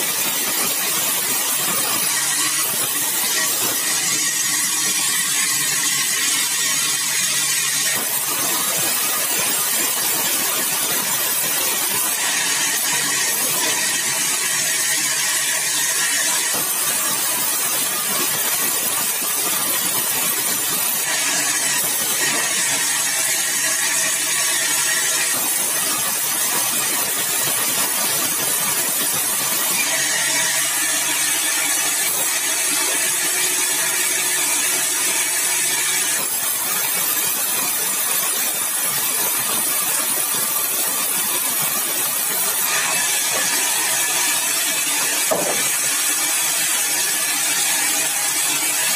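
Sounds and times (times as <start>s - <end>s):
sawmill blade cutting log: 0.0s - 48.9s.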